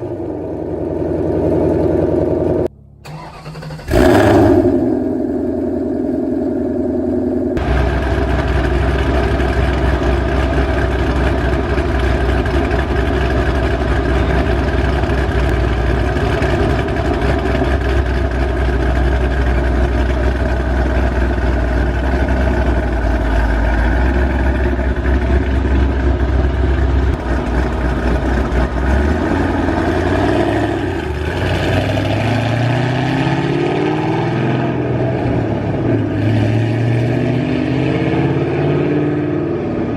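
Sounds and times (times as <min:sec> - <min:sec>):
car engine rumbling and revving: 0:00.0 - 0:39.9.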